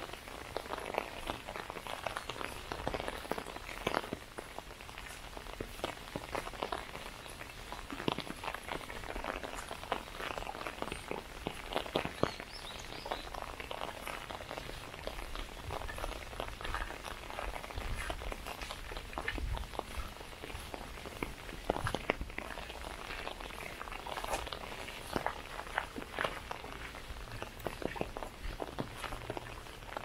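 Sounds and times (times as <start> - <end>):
footsteps on path: 0.0 - 30.0
rain tapping on umbrella: 0.0 - 30.0.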